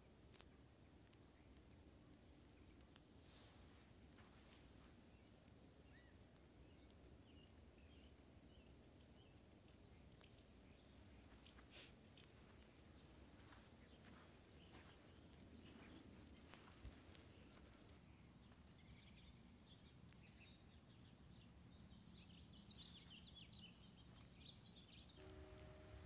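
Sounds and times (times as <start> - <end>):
faint bird chirps: 1.3 - 12.3, 13.0 - 26.0.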